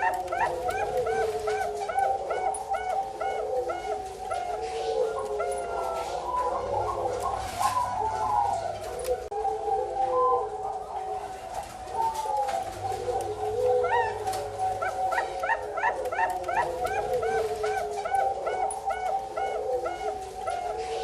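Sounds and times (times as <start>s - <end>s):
doves cooing: 0.0s - 21.0s.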